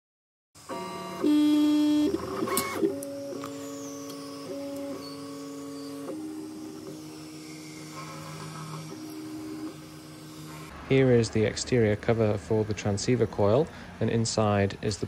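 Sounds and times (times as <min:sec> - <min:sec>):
stepper motors whining: 0:00.6 - 0:15.0.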